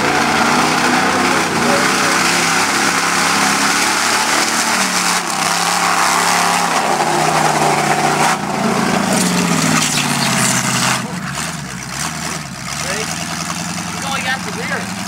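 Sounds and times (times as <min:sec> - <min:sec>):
off-road truck engine revving: 0:00.0 - 0:15.0.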